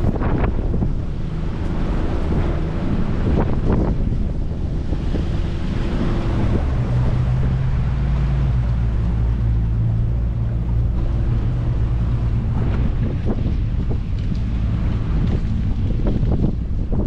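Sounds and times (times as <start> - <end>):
boat engine humming: 0.0 - 17.0
sea water rushing: 0.0 - 17.0
wind buffeting microphone: 0.0 - 17.0.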